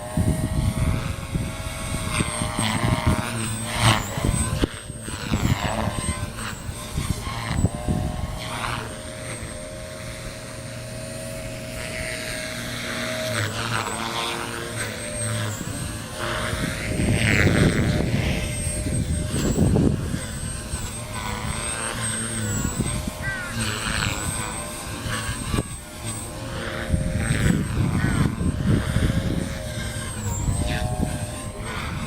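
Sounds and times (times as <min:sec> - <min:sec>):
rc helicopter rotor whine: 0:00.0 - 0:32.0
wind buffeting microphone: 0:00.0 - 0:32.0.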